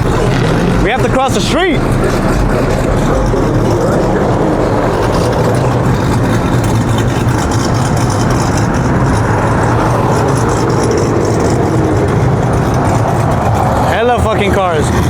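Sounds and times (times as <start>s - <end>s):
low engine hum: 0.0s - 15.0s
road traffic: 0.0s - 15.0s.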